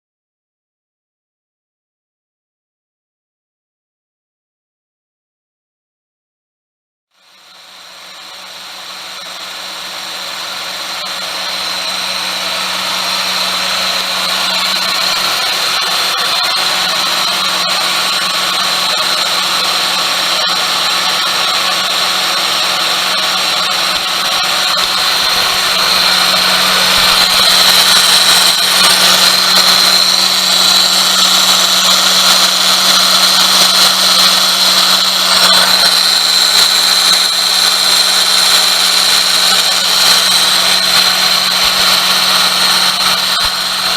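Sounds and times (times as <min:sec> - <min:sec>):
car engine whine and rasp: 0:07.2 - 0:43.9.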